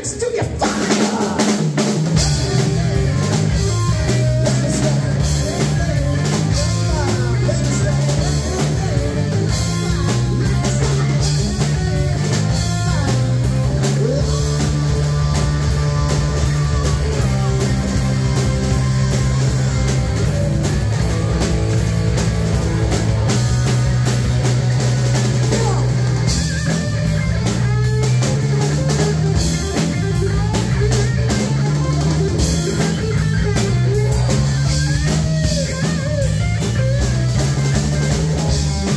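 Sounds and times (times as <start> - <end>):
drum kit: 0.0 - 38.9
electric bass guitar: 0.0 - 38.9
electric guitar: 0.0 - 38.9.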